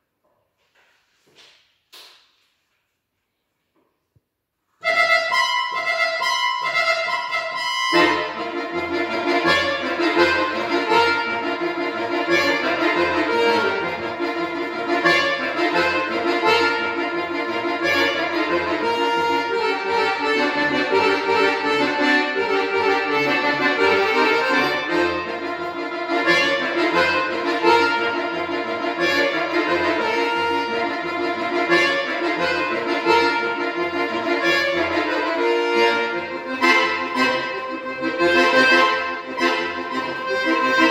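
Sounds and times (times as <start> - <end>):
piano accordion: 4.8 - 40.9.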